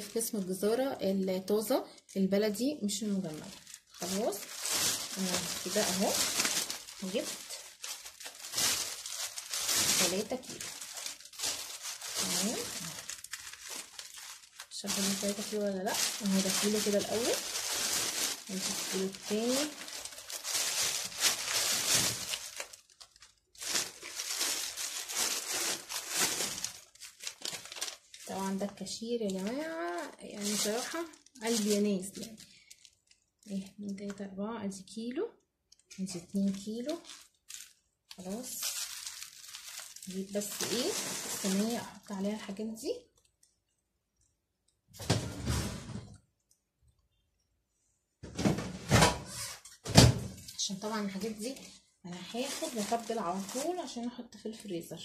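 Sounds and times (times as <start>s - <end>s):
plastic bags rustling: 1.5s - 33.8s, 35.8s - 42.6s, 48.4s - 54.7s.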